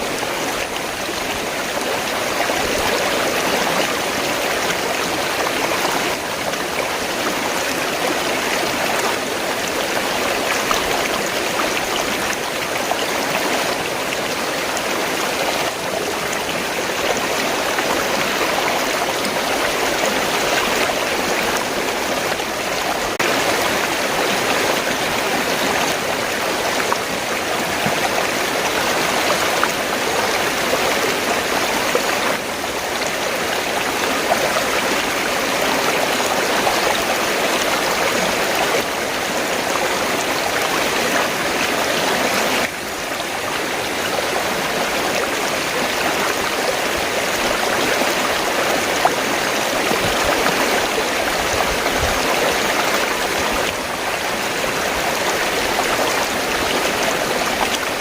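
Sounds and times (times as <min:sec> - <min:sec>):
river water rushing and gurgling: 0:00.0 - 0:58.0.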